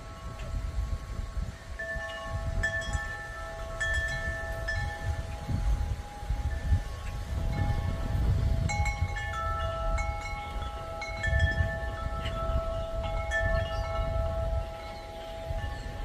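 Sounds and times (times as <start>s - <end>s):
wind chimes ringing: 0.0s - 16.0s
wind rumble on microphone: 0.0s - 16.0s.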